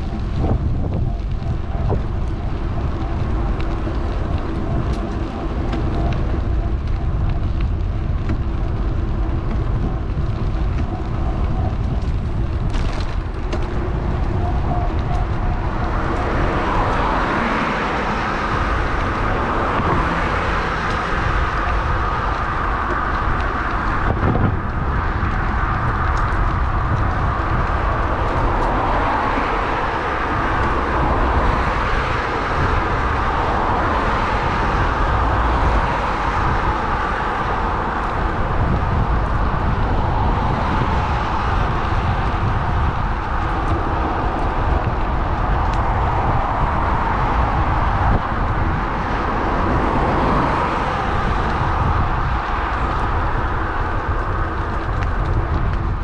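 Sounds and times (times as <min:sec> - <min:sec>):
road traffic noise: 0:00.0 - 0:56.0
wind buffeting microphone: 0:00.0 - 0:56.0.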